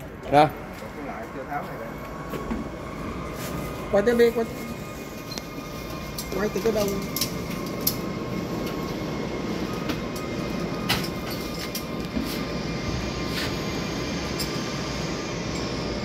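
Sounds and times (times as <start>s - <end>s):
mechanical running noise with whine: 0.0s - 16.0s.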